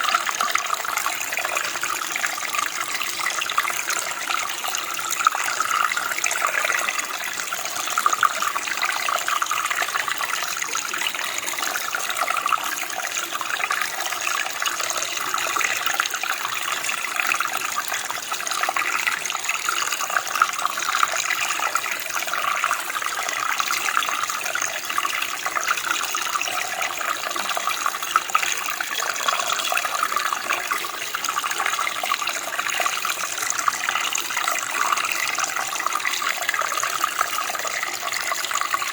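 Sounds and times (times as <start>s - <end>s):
running water flowing: 0.0s - 38.9s.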